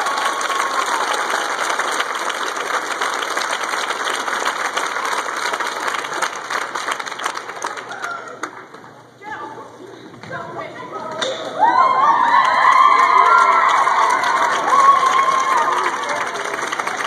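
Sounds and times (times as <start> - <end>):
audience applauding and cheering: 0.0 - 9.0, 11.4 - 17.0.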